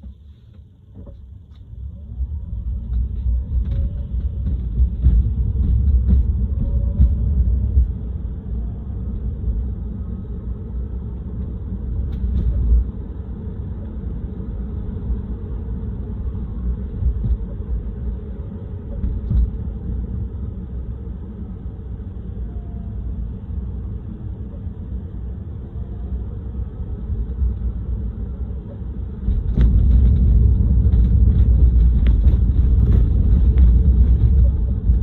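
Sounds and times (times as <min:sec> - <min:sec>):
car cabin road rumble: 0:00.0 - 0:35.0.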